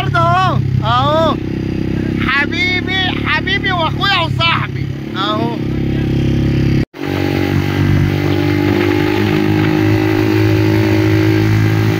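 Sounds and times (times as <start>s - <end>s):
motorcycle engine running: 0.0s - 11.9s
road and wind noise: 0.0s - 11.9s.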